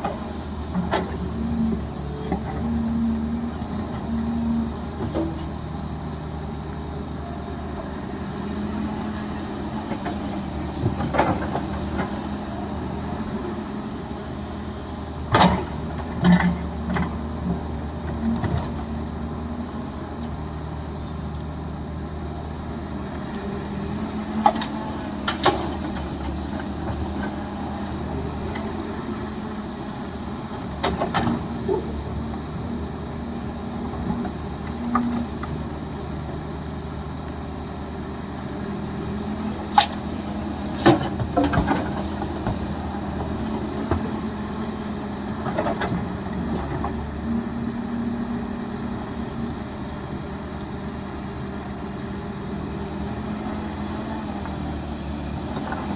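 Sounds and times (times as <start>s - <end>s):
heavy machinery engine humming: 0.0s - 55.9s.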